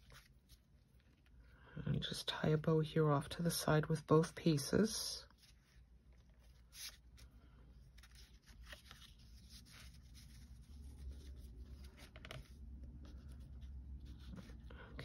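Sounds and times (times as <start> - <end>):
rustling of card and thread: 0.0 - 1.8, 4.4 - 15.0
low room hum: 0.0 - 15.0.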